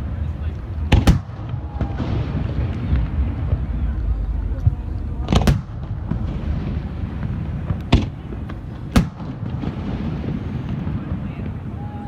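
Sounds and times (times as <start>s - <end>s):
crowd noise: 0.0s - 12.0s
rumble of distant fireworks: 0.0s - 12.0s.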